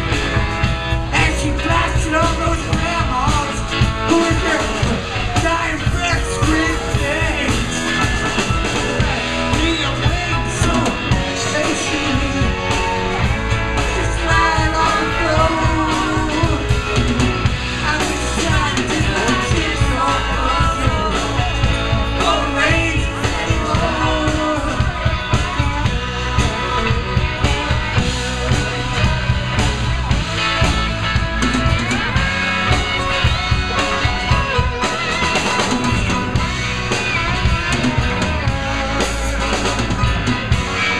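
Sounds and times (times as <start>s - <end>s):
live rock band playing: 0.0s - 40.9s
man singing lead: 1.0s - 40.9s.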